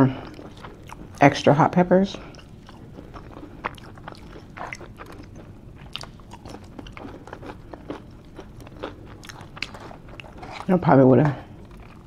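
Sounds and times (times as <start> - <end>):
person chewing food: 0.0 - 1.3, 2.2 - 12.0.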